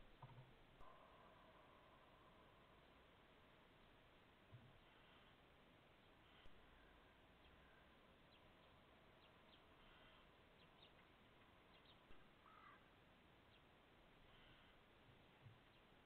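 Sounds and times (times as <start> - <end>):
faint corvid calls: 0.8 - 16.0.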